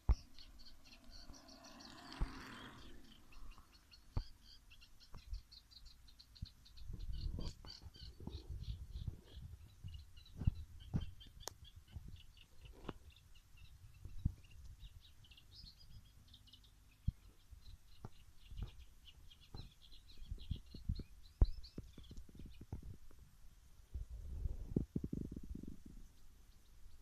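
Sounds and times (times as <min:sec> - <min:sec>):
small birds chirping: 0:00.0 - 0:23.2, 0:24.7 - 0:27.0.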